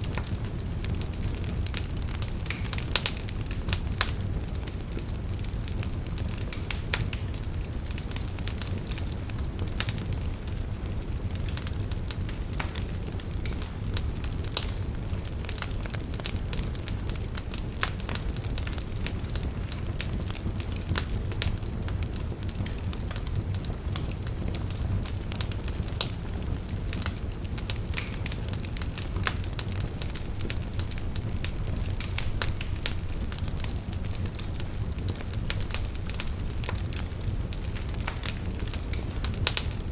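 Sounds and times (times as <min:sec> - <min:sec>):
burning wood crackling and popping: 0:00.0 - 0:39.9
wood fire flames rumbling: 0:00.0 - 0:39.9.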